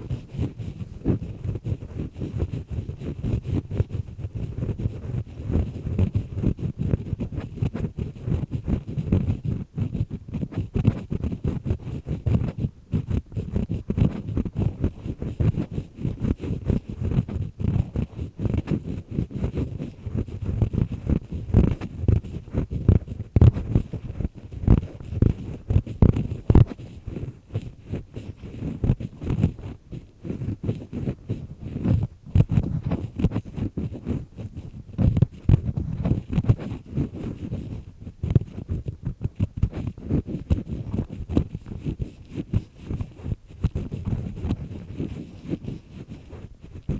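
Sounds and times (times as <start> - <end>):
earpick scraping inside ear: 0.0 - 46.9.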